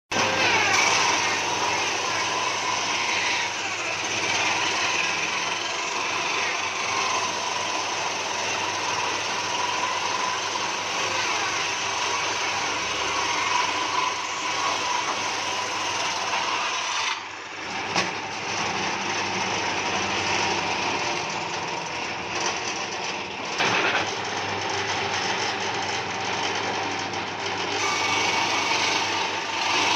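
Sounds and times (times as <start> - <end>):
power tool working wood: 0.1 - 29.9.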